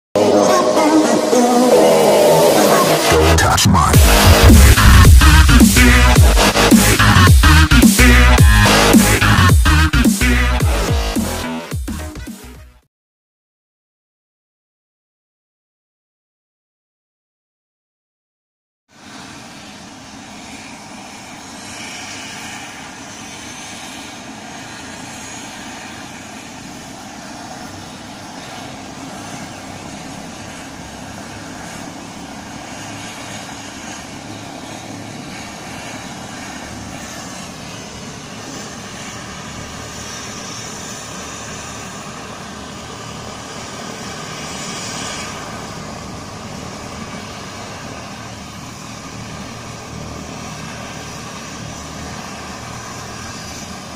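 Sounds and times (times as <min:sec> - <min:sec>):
car passing: 0:00.2 - 0:11.7, 0:19.0 - 0:53.9
distant helicopter running: 0:00.2 - 0:12.1, 0:18.9 - 0:53.9.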